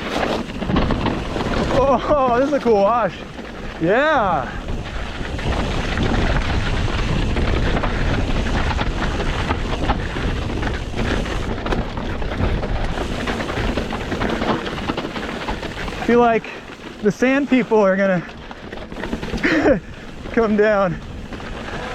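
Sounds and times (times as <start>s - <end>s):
bike rattling: 0.0s - 21.9s
tyres on loose ground: 0.0s - 21.9s
wind rumble on microphone: 0.0s - 21.9s.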